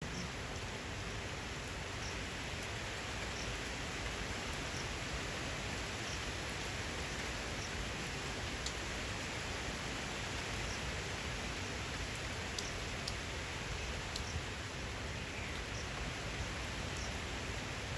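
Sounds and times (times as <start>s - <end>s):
rain in wind: 0.0s - 17.9s.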